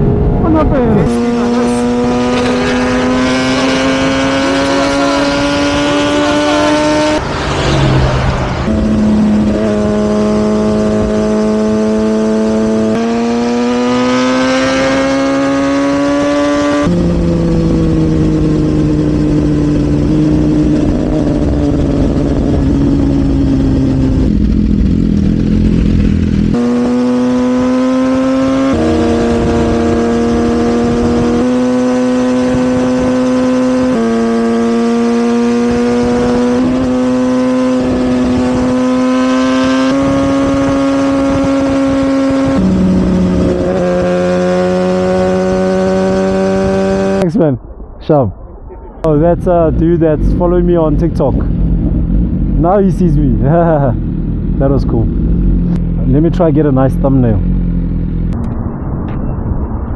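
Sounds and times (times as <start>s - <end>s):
motorcycle engine running hard: 0.0s - 7.2s, 8.6s - 47.2s, 50.0s - 58.4s.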